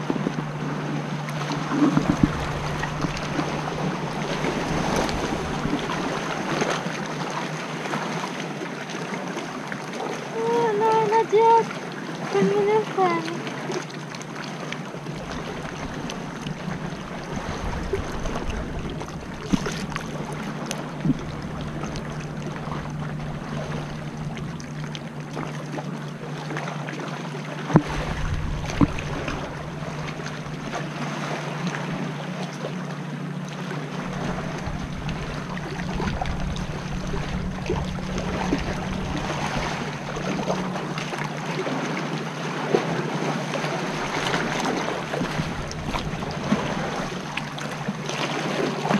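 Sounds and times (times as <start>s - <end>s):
water splashing against kayak: 0.0s - 48.9s.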